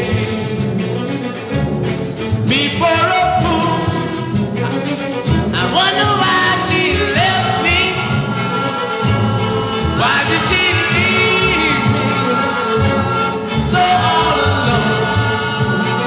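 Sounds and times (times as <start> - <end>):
oldies pop song with strings: 0.0 - 16.0.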